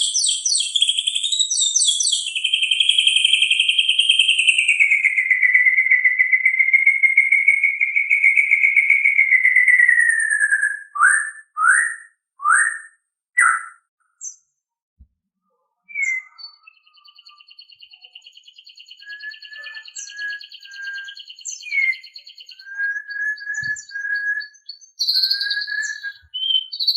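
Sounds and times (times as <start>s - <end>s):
bird whistling song: 0.0s - 14.4s, 15.8s - 26.9s.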